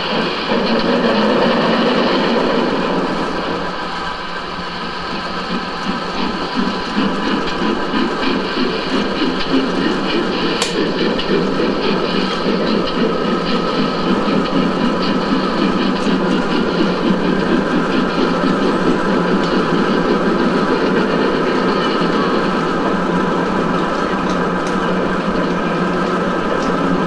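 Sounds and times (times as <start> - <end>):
model train rhythmic rumble: 0.0 - 27.0.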